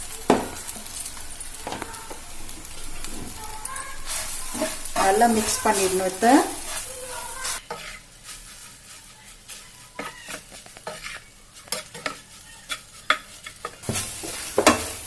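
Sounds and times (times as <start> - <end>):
oil sizzling in a frying pan: 0.0 - 15.0
spatula scraping and knocking pan: 0.2 - 15.0.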